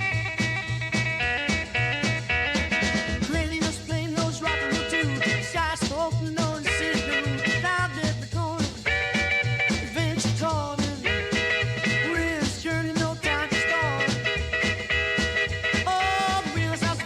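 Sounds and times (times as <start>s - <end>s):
background music with beat: 0.0s - 17.0s.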